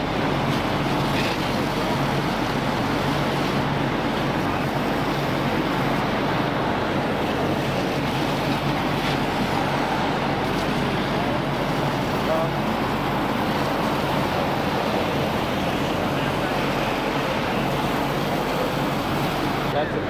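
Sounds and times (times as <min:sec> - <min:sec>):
constant rushing noise: 0:00.0 - 0:20.0
engine rumble: 0:00.0 - 0:20.0.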